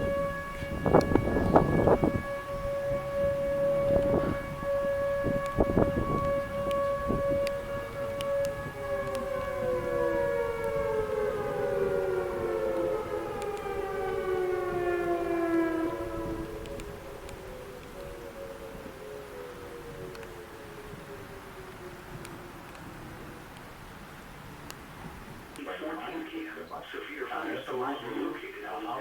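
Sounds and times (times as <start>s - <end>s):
tornado warning sirens wailing: 0.0s - 29.0s.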